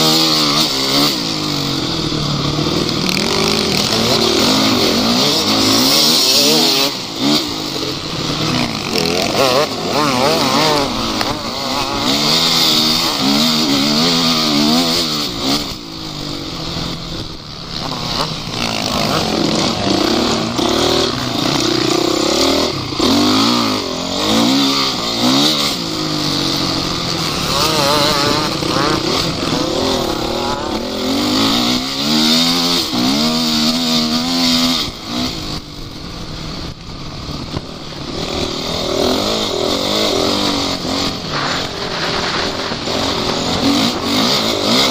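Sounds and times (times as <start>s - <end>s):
off-road engine revving: 0.0s - 44.9s.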